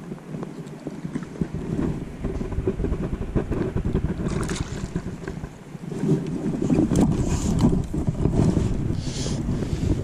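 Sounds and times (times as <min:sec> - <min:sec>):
river water lapping and splashing: 0:00.0 - 0:10.0
wind buffeting the microphone: 0:00.0 - 0:10.0.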